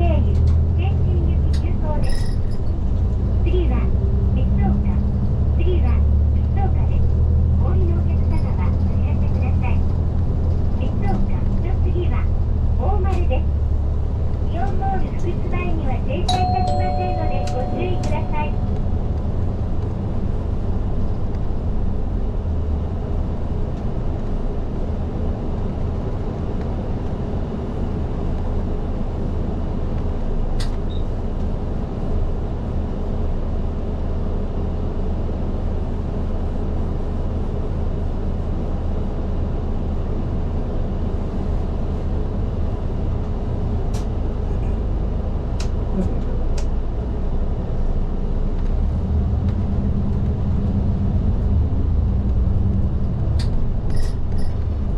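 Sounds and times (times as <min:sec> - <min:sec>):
bus engine drone: 0:00.0 - 0:54.9
road noise: 0:00.0 - 0:54.9.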